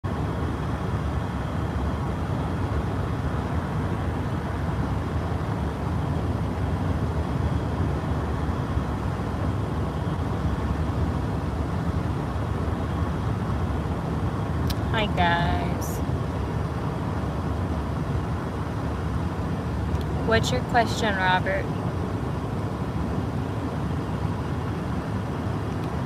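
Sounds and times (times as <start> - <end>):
car interior road rumble: 0.0 - 26.0.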